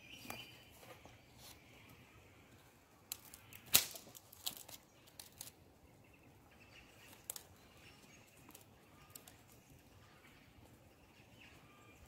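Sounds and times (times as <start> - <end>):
birds: 0.0 - 12.0.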